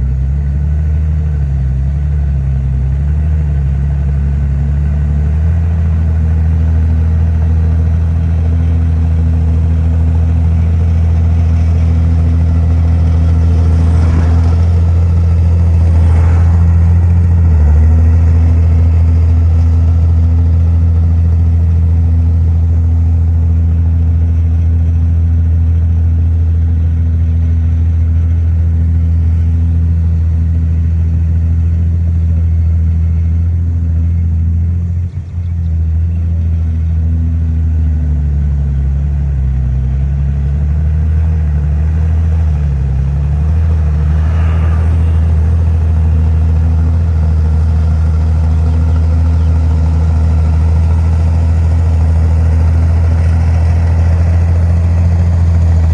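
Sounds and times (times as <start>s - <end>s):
heavy diesel engine droning: 0.0s - 55.9s.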